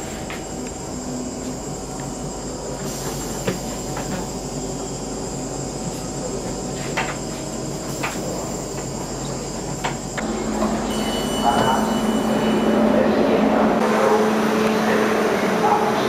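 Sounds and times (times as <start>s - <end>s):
low train hum: 0.0s - 16.0s.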